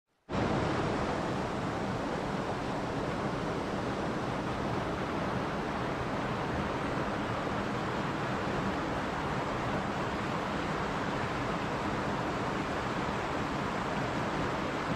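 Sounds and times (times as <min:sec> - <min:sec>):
river rushing over rocks: 0:00.3 - 0:14.9.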